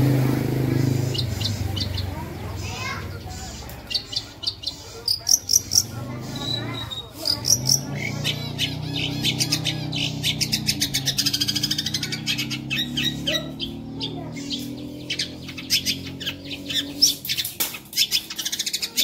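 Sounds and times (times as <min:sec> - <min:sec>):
bird singing high chirps: 0:00.8 - 0:19.0.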